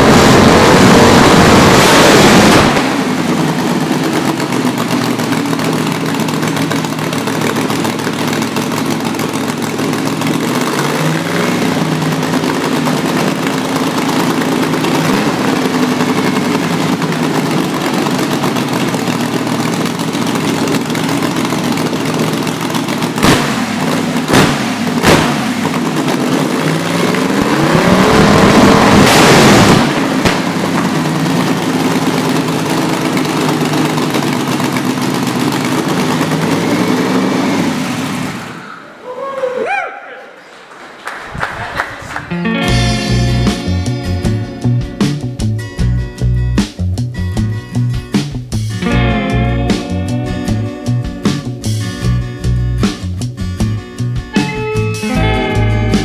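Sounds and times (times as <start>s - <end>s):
race engine idling and revving: 0.0s - 38.7s, 42.2s - 56.0s.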